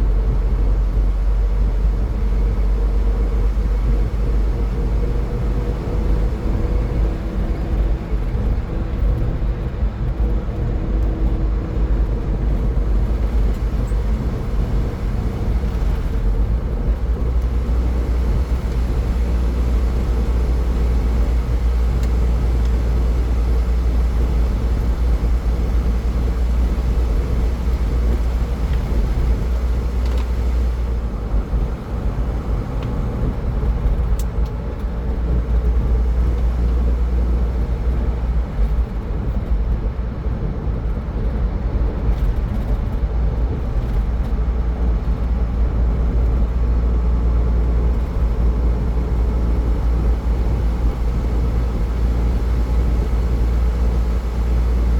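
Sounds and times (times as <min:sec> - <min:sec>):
road and tyre noise: 0:00.0 - 0:54.9.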